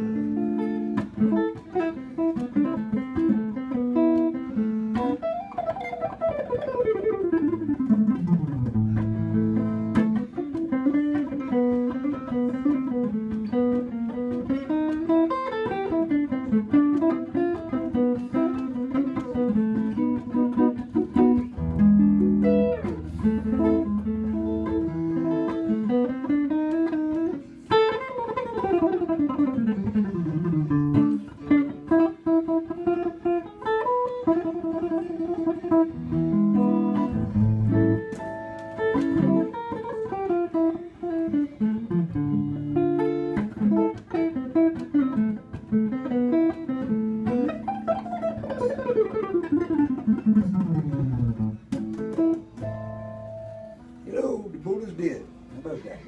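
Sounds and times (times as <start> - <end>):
electric guitar solo: 0.0 - 56.0.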